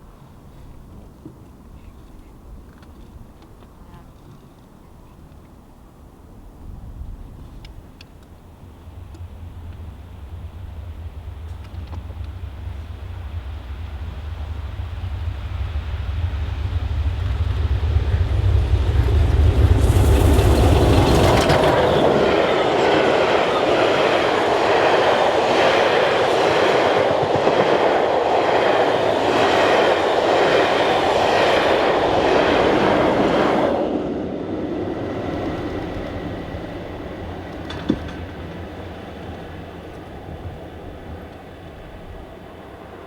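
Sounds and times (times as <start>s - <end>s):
wind buffeting microphone: 5.7s - 43.0s
train wheels clickety-clack: 7.3s - 42.5s.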